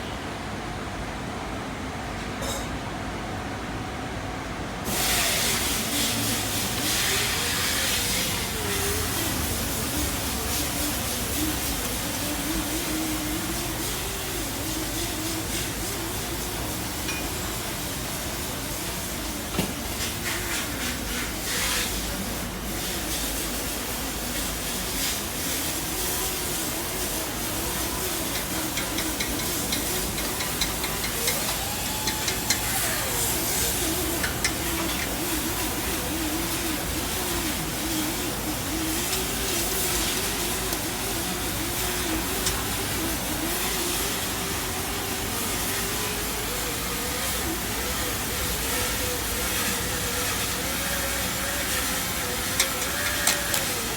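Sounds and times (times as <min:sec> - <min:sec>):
arc welding hiss and crackle: 0:04.8 - 0:53.9.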